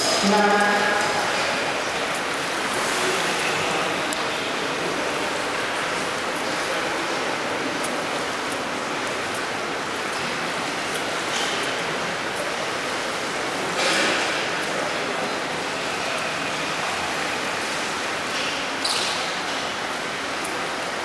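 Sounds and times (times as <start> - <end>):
water rushing: 0.0 - 21.0
water splashing: 0.0 - 21.0.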